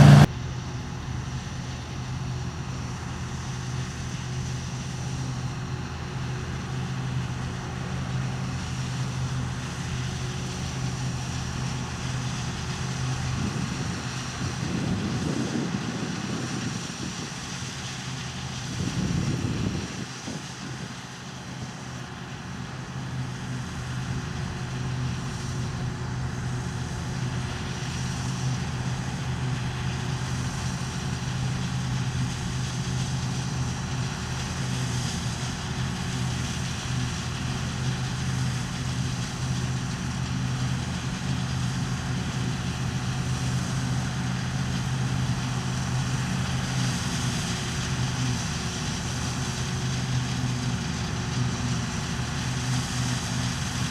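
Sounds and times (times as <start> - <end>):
combine harvester engine hum: 0.0 - 53.9
rushing machinery noise: 0.0 - 53.9.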